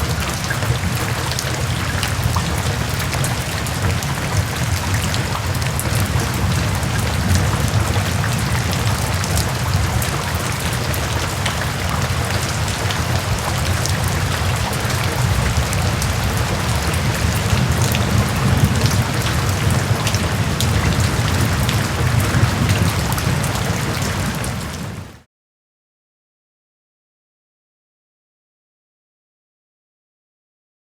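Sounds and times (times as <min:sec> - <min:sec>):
raindrops ticking: 0:00.0 - 0:24.8
rain hissing: 0:00.0 - 0:25.1.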